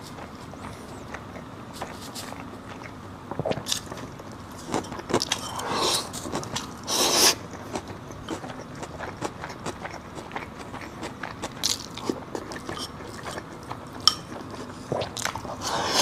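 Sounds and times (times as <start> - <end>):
crunchy biting and chewing: 0.0 - 16.0.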